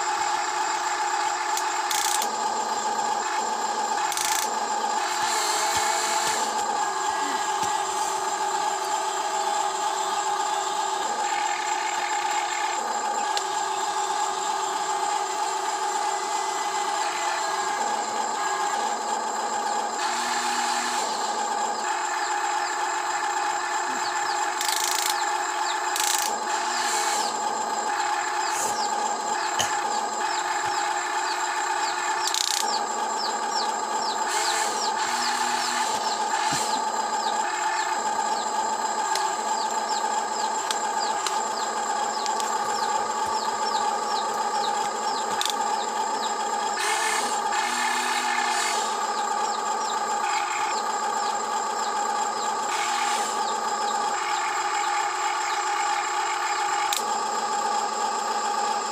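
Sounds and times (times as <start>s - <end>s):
low motor hum: 0.0s - 58.8s
electric motors whining: 0.0s - 58.9s.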